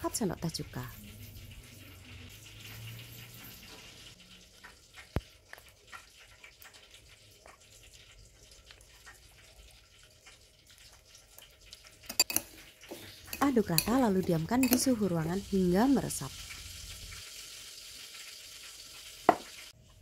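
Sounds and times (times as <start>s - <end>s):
liquid trickling into a spoon: 0.8s - 19.6s.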